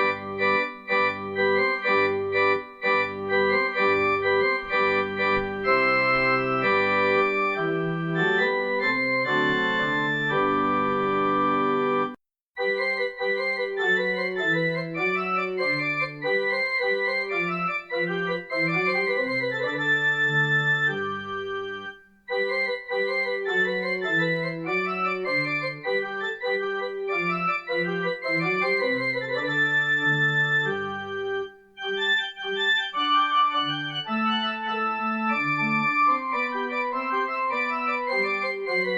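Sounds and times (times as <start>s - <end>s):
organ playing held chords: 0.0s - 38.9s.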